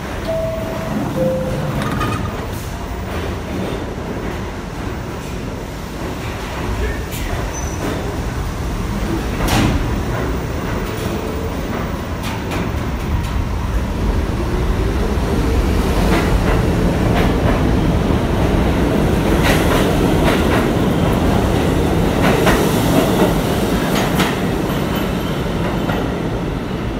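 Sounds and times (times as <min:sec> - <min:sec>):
subway train rumble: 0:00.0 - 0:26.9.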